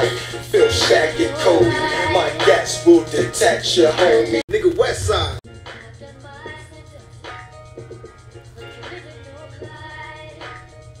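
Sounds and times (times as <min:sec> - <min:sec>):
hip-hop song with rapping: 0:00.0 - 0:10.8.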